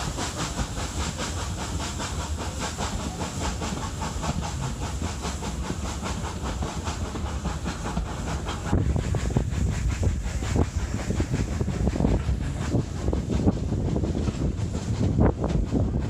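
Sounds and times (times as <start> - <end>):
steam locomotive exhaust chuffing: 0.0 - 16.0.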